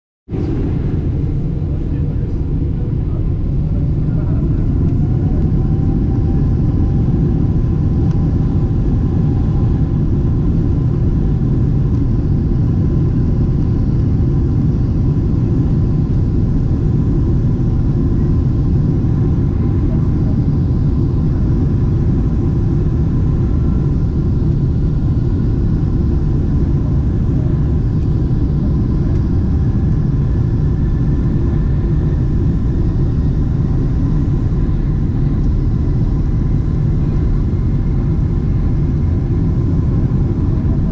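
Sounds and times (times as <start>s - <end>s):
jet engines deep rumble: 0.3s - 40.9s.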